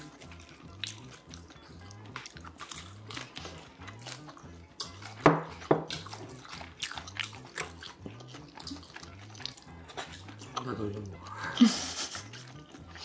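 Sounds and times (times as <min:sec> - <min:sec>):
wet chewing and smacking: 0:00.0 - 0:13.0.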